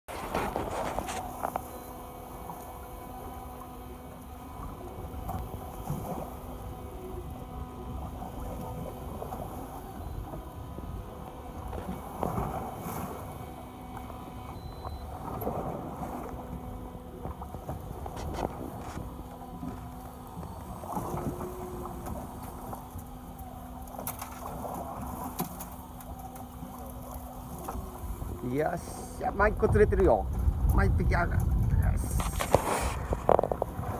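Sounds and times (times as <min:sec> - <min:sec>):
boat motor humming: 0:00.1 - 0:33.9
water sloshing against hull: 0:00.1 - 0:33.9.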